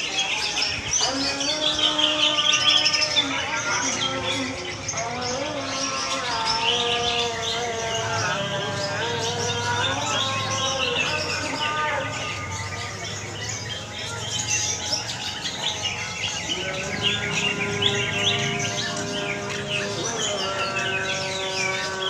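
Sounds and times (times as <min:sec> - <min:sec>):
caged birds singing chorus: 0:00.0 - 0:22.0.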